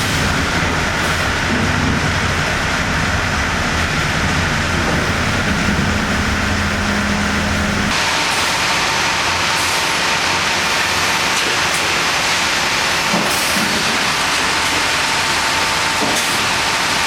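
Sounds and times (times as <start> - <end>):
sawmill saws and machinery din: 0.0 - 17.0.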